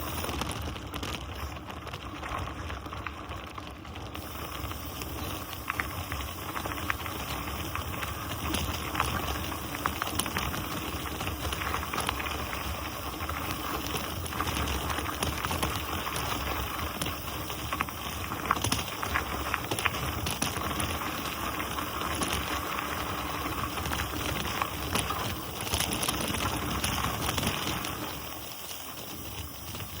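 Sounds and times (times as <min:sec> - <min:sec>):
bicycle tyres rolling on dirt: 0:00.0 - 0:30.0
small clicks and rattles: 0:00.0 - 0:30.0.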